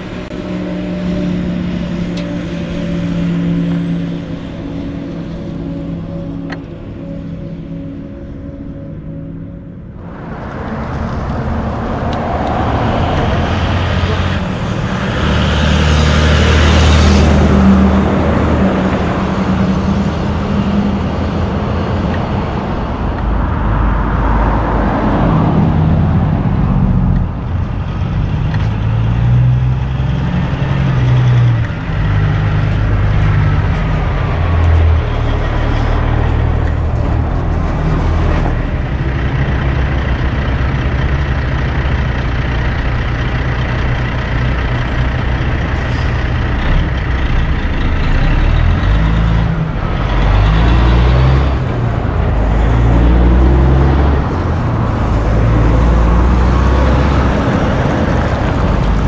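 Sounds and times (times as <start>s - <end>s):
diesel truck engine drone: 0.0s - 59.0s
traffic noise: 0.0s - 59.0s.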